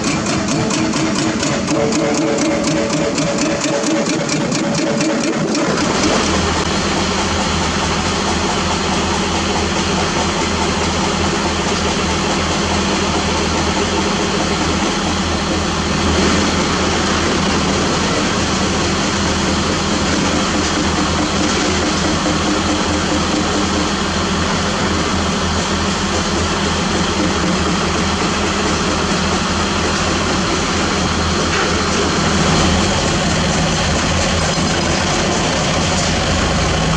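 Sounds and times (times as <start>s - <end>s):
dump truck diesel engine running: 0.0s - 36.9s
excavator diesel engines running: 0.0s - 36.9s.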